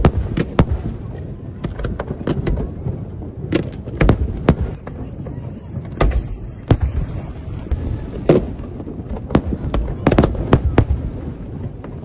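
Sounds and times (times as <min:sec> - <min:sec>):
low continuous rumble: 0:00.0 - 0:12.0.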